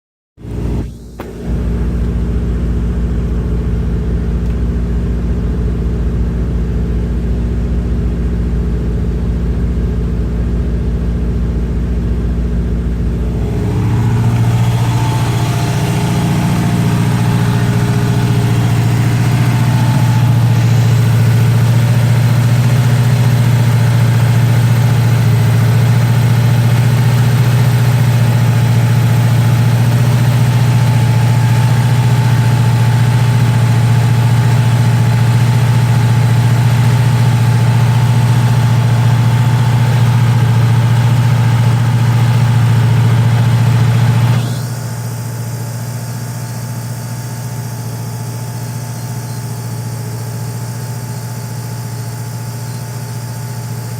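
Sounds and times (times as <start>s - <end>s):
car engine idling: 0.4s - 53.9s.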